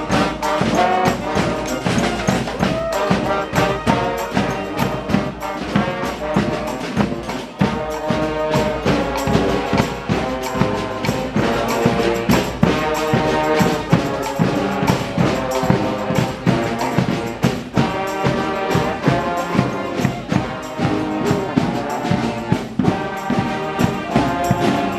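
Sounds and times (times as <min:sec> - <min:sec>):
brass band playing: 0:00.0 - 0:24.9.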